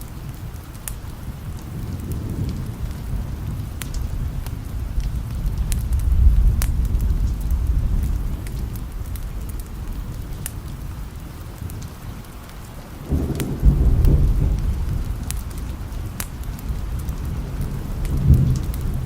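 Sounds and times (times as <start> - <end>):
steady rain: 0.0 - 19.0
rolling thunder: 1.1 - 12.2, 13.0 - 19.0.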